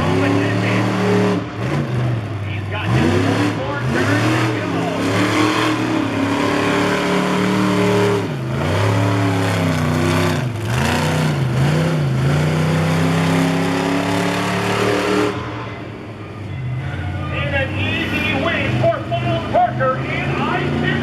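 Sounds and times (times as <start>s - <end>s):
monster truck engine: 0.0s - 21.0s.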